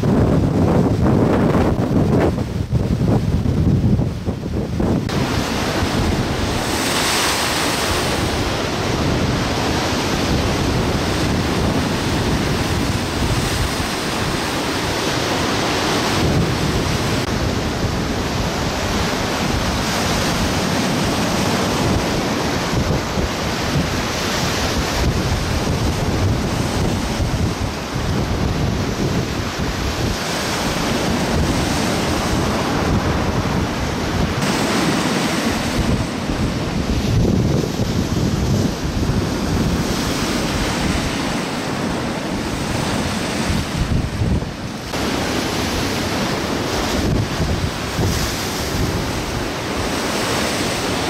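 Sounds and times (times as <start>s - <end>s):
waves breaking: 0.0s - 51.0s
wind buffeting microphone: 0.0s - 51.0s.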